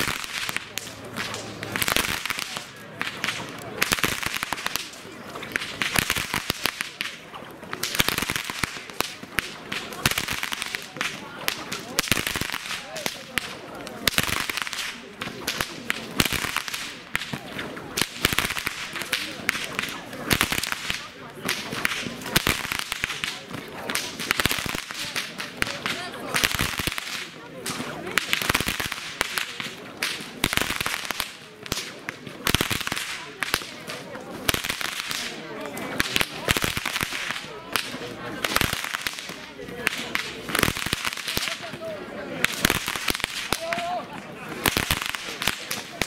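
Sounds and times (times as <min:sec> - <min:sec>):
whips cracking: 0:00.0 - 0:41.7, 0:42.4 - 0:46.0
faint crowd voices: 0:00.0 - 0:46.0.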